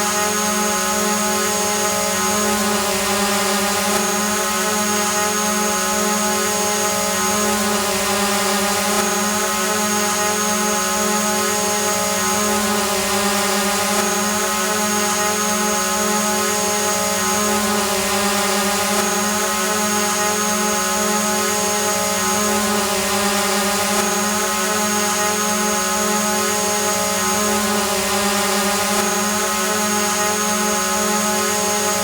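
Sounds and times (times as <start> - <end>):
drone propellers buzzing: 0.1 - 32.0.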